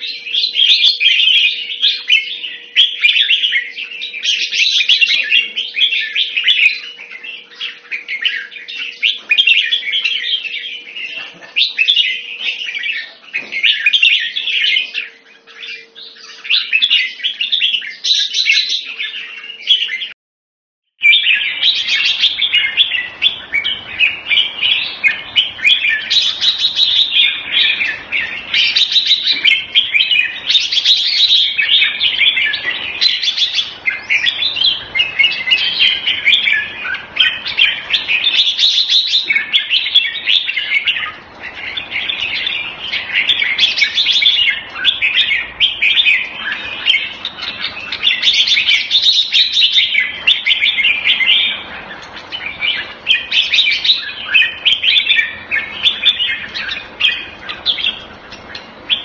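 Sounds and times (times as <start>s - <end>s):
bird singing: 0.0s - 20.2s, 21.0s - 59.0s.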